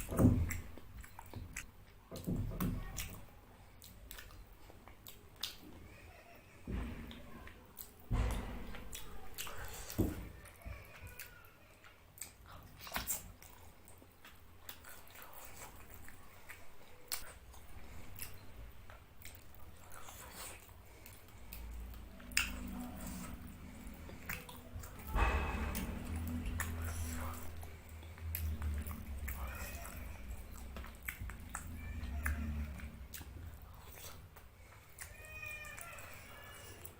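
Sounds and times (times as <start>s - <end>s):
person chewing food: 0.0s - 5.9s, 7.0s - 36.9s.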